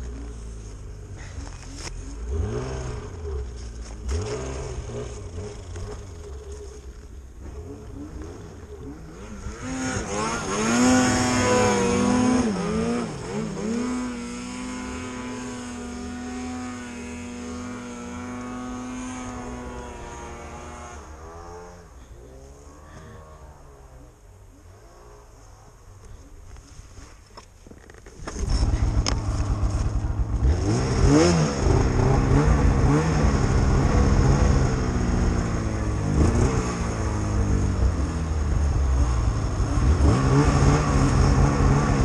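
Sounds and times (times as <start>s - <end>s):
snowmobile engine revving: 1.1s - 25.7s, 28.3s - 42.0s.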